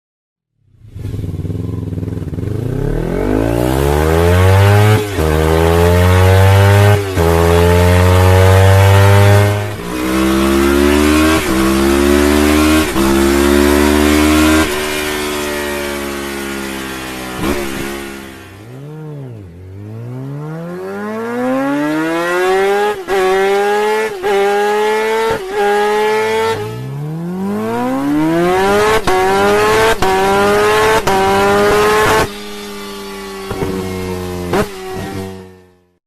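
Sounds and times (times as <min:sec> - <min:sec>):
motorcycle engine accelerating: 0:00.6 - 0:36.0.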